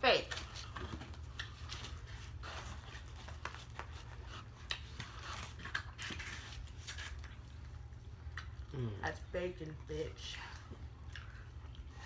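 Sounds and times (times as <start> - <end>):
chewing and mouth sounds: 0.6 - 12.0.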